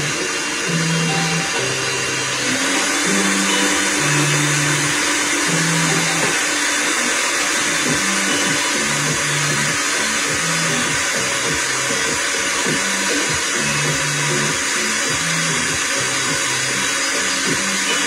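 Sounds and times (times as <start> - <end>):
blender running: 0.0 - 18.0.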